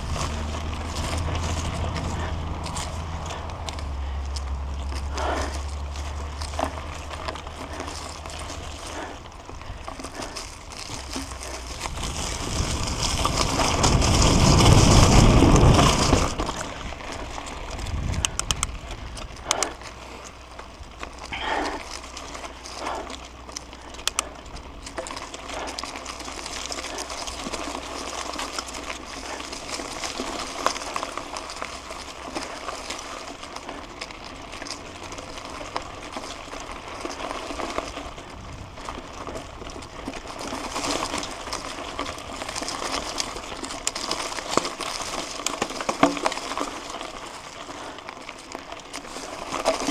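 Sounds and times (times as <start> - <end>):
bike rattling and clicking: 0.0 - 49.9
bike tyres crunching on dirt: 0.0 - 49.9.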